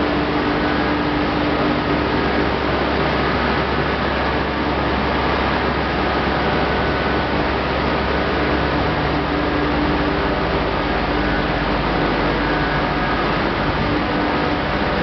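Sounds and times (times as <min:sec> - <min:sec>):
milling machinery running: 0:00.0 - 0:15.0.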